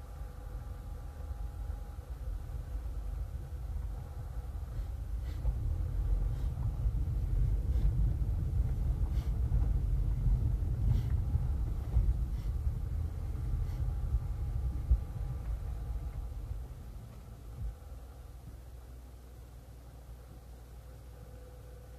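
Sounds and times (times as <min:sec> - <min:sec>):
car tyres rumbling on dirt road: 0:00.0 - 0:20.8.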